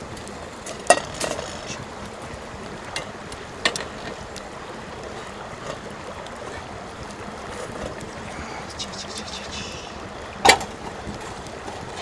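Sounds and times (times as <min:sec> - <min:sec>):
campfire hissing: 0:00.0 - 0:12.0
fire cracks: 0:00.0 - 0:12.0.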